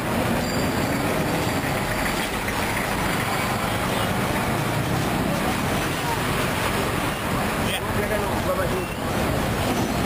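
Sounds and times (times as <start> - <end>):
minibus engine passing: 0.0 - 10.0
motorcycles passing: 0.0 - 10.0
road noise: 0.0 - 10.0
truck engine passing: 0.0 - 10.0.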